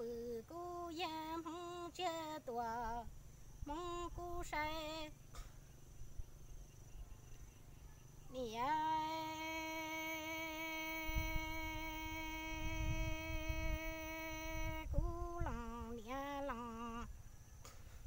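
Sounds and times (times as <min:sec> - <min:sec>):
woman singing unaccompanied: 0:00.0 - 0:05.6, 0:07.6 - 0:17.2.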